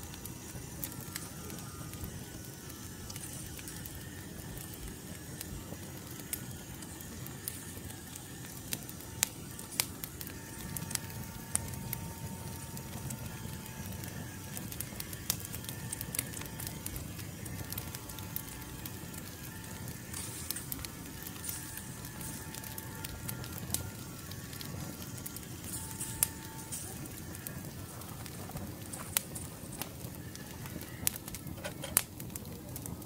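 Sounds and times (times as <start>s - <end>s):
fire pops: 0.0s - 33.0s
wood fire crackling: 0.0s - 33.0s.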